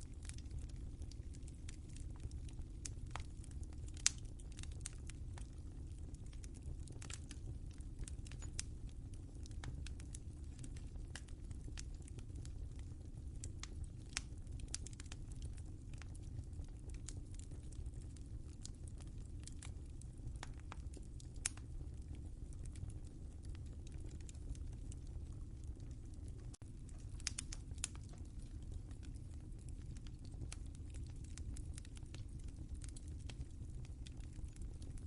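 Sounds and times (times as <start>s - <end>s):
low fire rumble: 0.0s - 35.0s
wood fire crackling: 0.0s - 35.0s.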